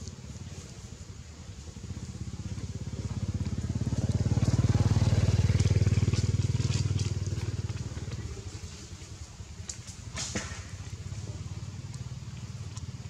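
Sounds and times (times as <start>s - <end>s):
vehicle engine passing by: 0.2s - 9.6s, 10.2s - 13.0s.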